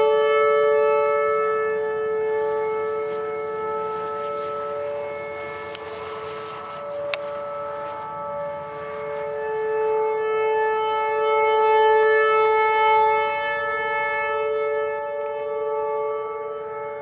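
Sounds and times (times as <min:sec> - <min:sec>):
rotating warning siren steady tone: 0:00.0 - 0:17.0.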